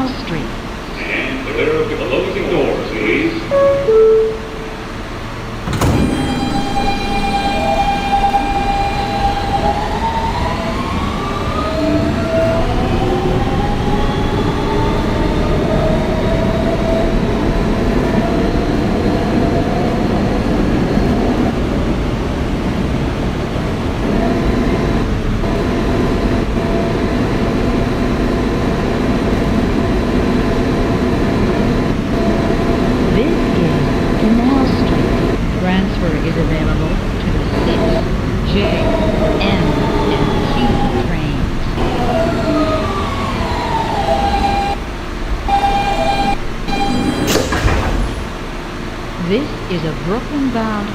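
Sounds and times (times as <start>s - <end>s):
wheels rumbling on track: 0.0s - 47.0s
subway car doors shutting: 0.0s - 50.6s
train traction motors whining: 0.0s - 50.9s.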